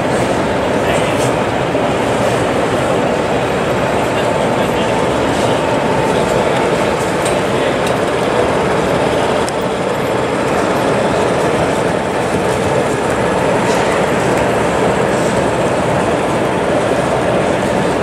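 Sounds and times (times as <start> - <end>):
model diesel engine sound: 0.0 - 18.0
model train wheels rumbling on track: 0.0 - 18.0.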